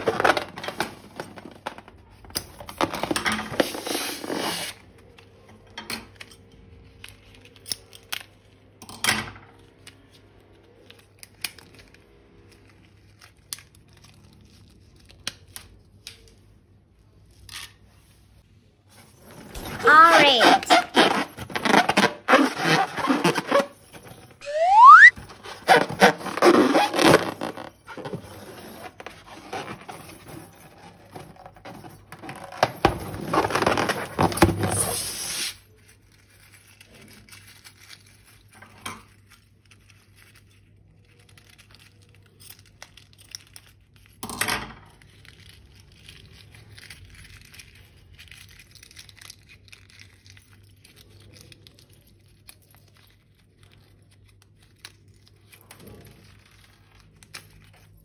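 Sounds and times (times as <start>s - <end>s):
slime and rubber crinkling: 0.0s - 2.8s, 10.0s - 44.2s, 44.9s - 58.0s.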